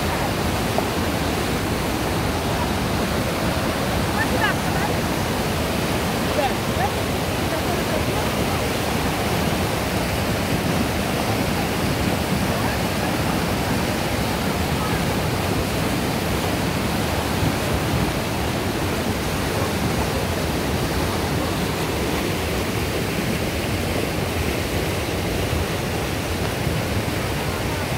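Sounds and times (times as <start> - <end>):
river rushing over boulders: 0.0 - 27.9.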